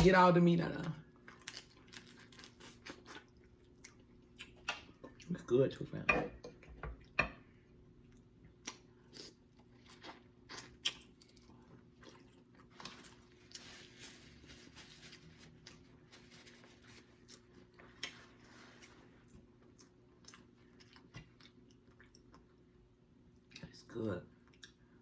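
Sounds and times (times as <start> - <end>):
faint close-up chewing: 1.1 - 5.4, 8.0 - 16.0, 16.6 - 25.0.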